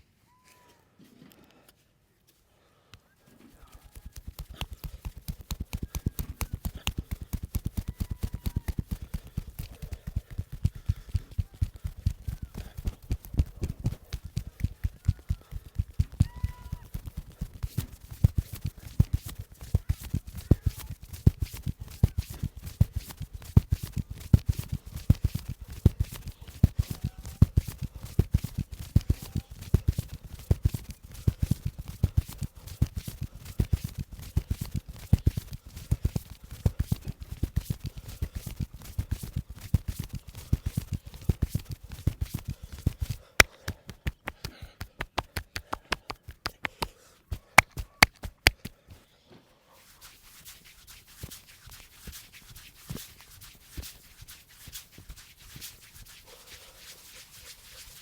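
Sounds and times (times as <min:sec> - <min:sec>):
hands slapping and patting body: 0:03.5 - 0:49.1, 0:49.8 - 0:58.0.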